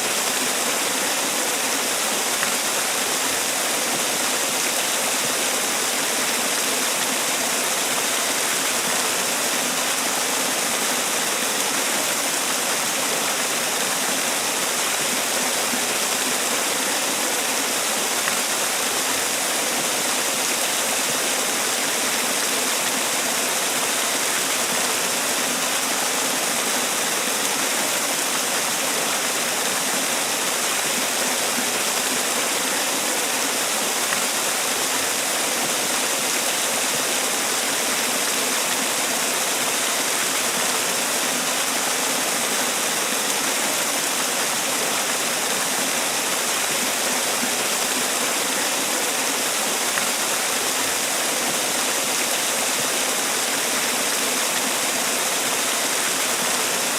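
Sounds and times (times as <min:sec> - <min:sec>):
waterfall splashing: 0:00.0 - 0:56.9.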